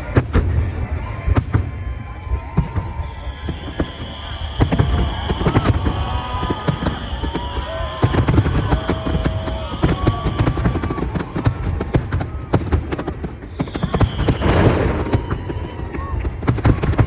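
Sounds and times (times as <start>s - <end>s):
fireworks bangs: 0.0s - 17.0s
high firework whistles: 1.7s - 17.0s.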